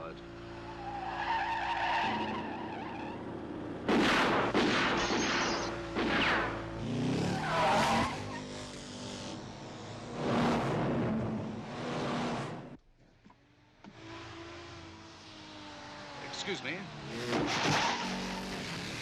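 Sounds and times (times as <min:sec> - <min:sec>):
car engines revving: 0:00.0 - 0:12.8, 0:13.7 - 0:19.0.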